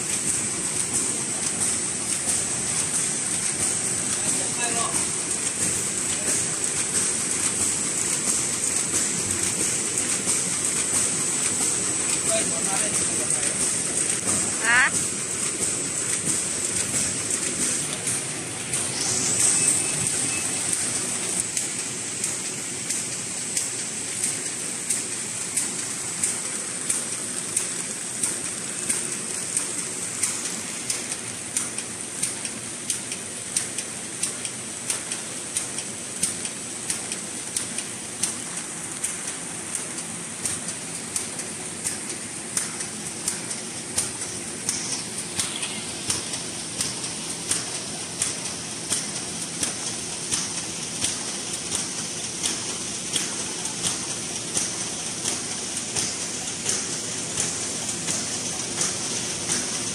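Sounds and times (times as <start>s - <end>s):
machine whir and hiss: 0.0s - 59.9s
sharp mechanical clack: 0.1s - 59.9s.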